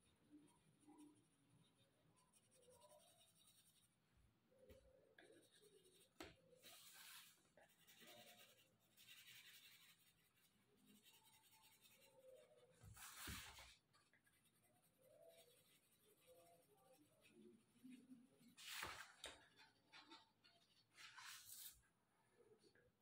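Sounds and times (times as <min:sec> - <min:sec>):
pencil scratching on paper: 0:00.5 - 0:04.0, 0:05.2 - 0:21.8.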